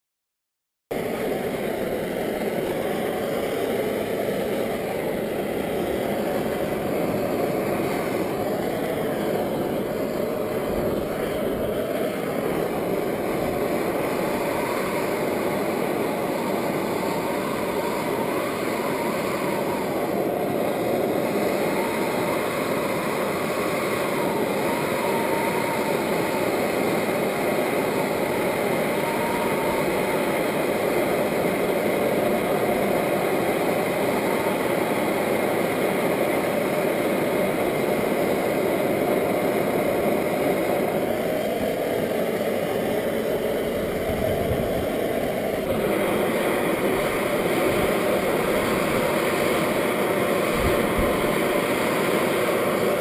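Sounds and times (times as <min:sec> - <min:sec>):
torch flame hissing: 0:01.0 - 0:53.0.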